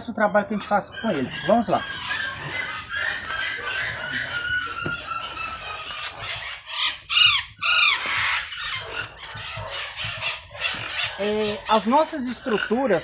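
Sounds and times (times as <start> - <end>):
birds squawking: 0.0 - 13.0.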